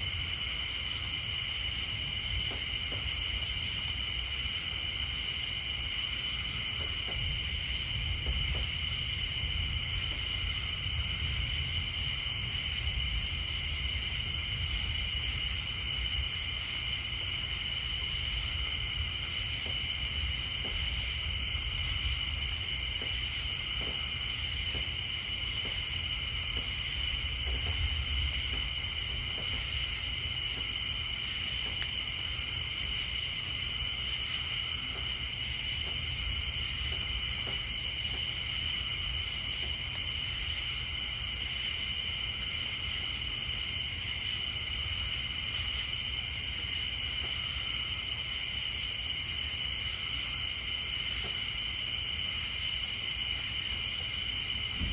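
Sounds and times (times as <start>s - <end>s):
insects and frogs trilling: 0.0s - 54.9s.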